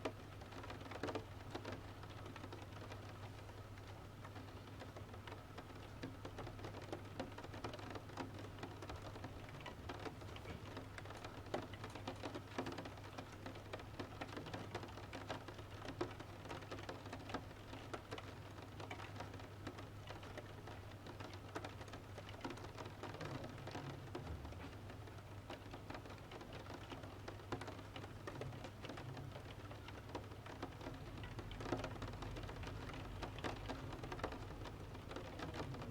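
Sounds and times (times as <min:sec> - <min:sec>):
rain pattering on a window: 0:00.0 - 0:35.9.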